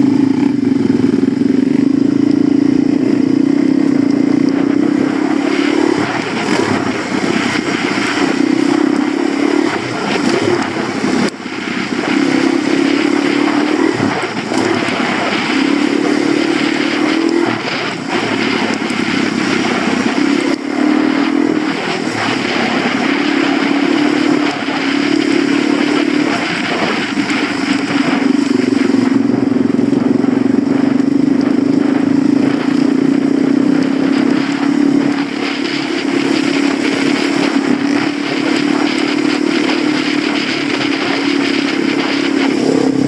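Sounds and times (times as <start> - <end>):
constant rushing noise: 0.0 - 43.0
dirt bike engine running: 0.0 - 43.0.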